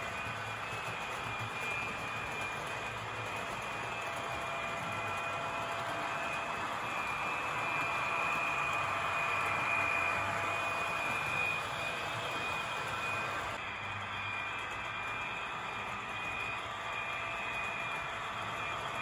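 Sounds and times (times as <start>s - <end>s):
model train motor whine: 0.0s - 19.0s
wheels rolling on track: 0.0s - 19.0s.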